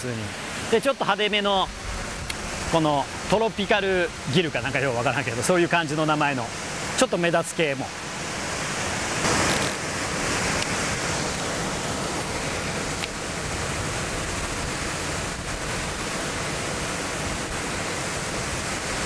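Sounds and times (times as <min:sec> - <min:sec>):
water rushing down a spillway: 0:00.0 - 0:19.0.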